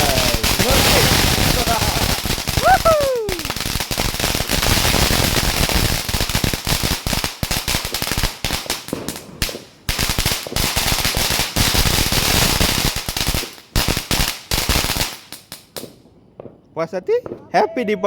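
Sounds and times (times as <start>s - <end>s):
firecrackers banging: 0.0s - 16.6s.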